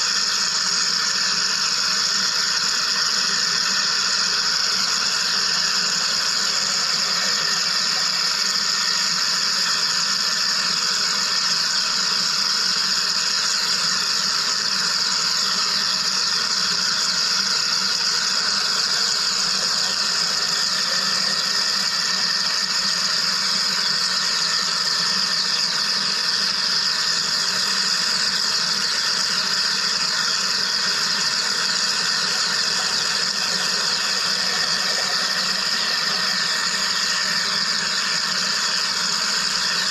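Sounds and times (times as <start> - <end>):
machine hissing with steady tones: 0.0 - 39.9.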